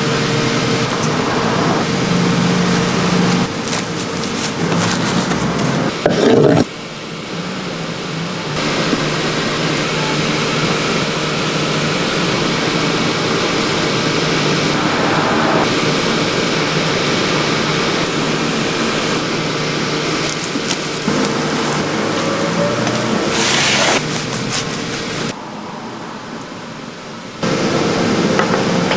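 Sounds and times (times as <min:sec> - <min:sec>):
machine hum and hiss: 0:00.0 - 0:28.9.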